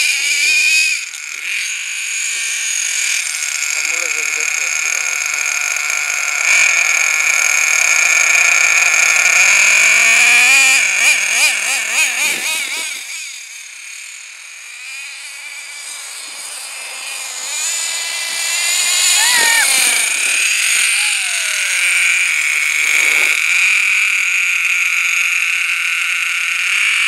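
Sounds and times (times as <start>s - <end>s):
rc truck engine whining and revving: 0.0s - 27.0s.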